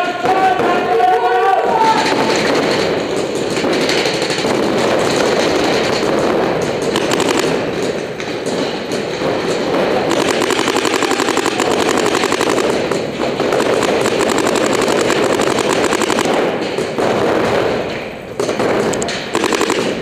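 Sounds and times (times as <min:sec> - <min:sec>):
paintball markers firing: 0:01.8 - 0:20.0.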